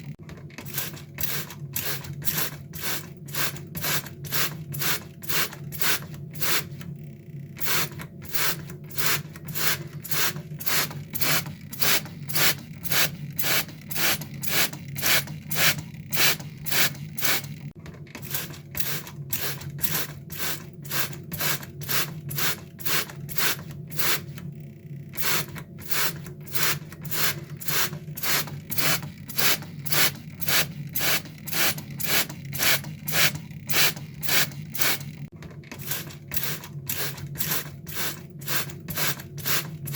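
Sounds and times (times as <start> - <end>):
water spray squirting: 0.7 - 6.8, 7.6 - 17.6, 18.2 - 24.4, 25.2 - 39.9.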